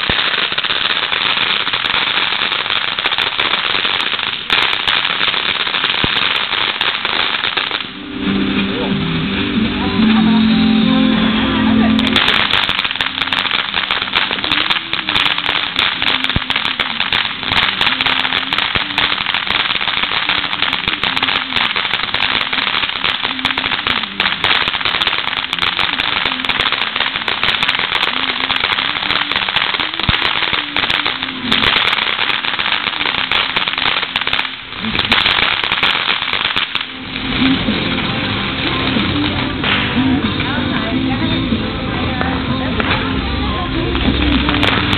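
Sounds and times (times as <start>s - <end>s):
firework hissing spray: 0.0s - 8.2s, 11.6s - 40.7s
firework crackling pops: 0.0s - 8.4s, 11.9s - 44.9s.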